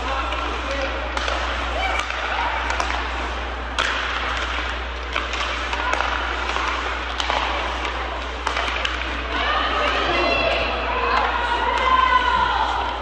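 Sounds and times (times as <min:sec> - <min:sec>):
hockey sticks and puck clacking: 0:00.0 - 0:13.0
skates scraping on ice: 0:00.0 - 0:13.0
steady low hum: 0:00.0 - 0:13.0.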